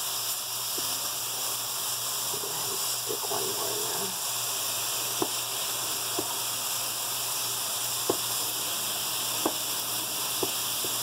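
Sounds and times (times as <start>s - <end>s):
chicken sizzling in skillet: 0.0s - 11.0s.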